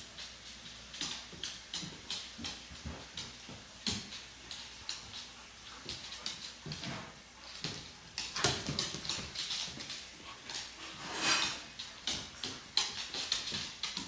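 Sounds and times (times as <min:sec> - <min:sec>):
dogs play-fighting: 0:00.1 - 0:14.0.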